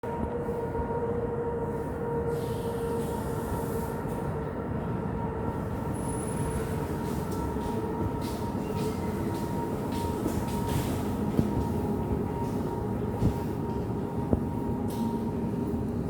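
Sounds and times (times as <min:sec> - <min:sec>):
electric locomotive whine: 0:00.0 - 0:16.0
train rumble: 0:00.0 - 0:16.0.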